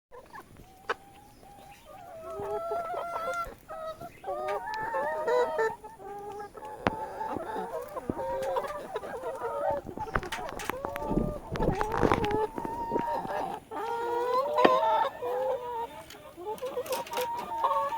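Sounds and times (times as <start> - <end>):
chickens clucking: 0.1 - 17.9.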